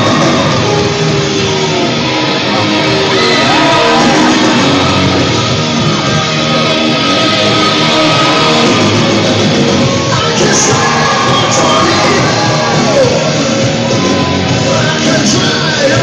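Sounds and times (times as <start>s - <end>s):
crowd shouting and cheering: 0.0s - 16.0s
rock entrance music over loudspeakers: 0.0s - 16.0s.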